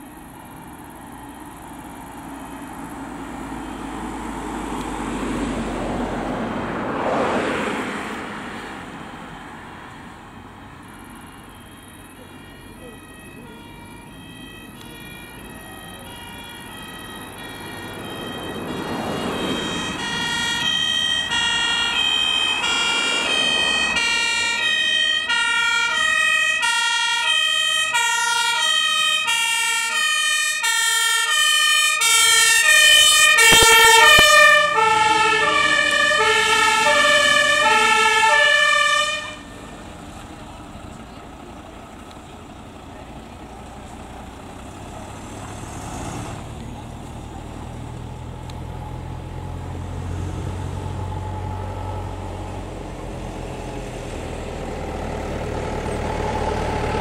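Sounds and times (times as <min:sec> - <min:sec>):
truck engine running: 0:00.0 - 0:06.5, 0:08.6 - 0:57.0
fire engine two-tone siren: 0:00.0 - 0:57.0.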